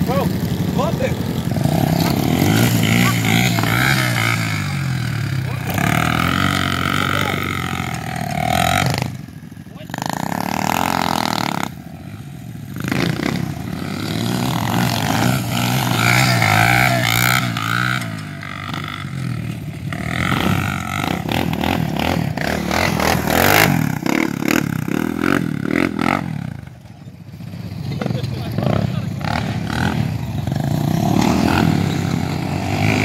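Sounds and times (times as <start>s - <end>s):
small engines revving: 0.0s - 33.0s.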